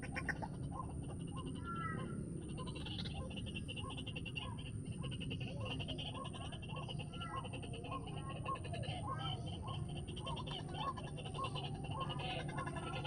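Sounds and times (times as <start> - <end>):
birds croaking calls: 0.0 - 13.0.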